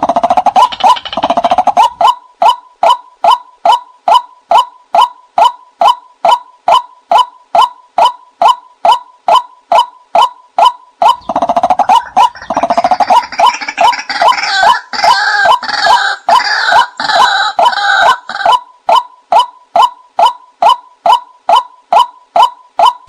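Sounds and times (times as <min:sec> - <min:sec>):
bird croaking calls: 0:00.0 - 0:23.0
bird kwak calls: 0:00.0 - 0:23.0.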